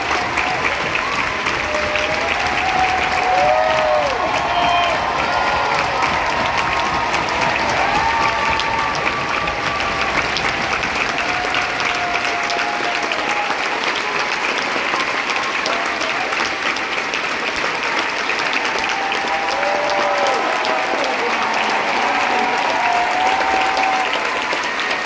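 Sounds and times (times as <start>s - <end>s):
crowd applauding: 0.0s - 25.0s
crowd cheering: 0.0s - 25.0s.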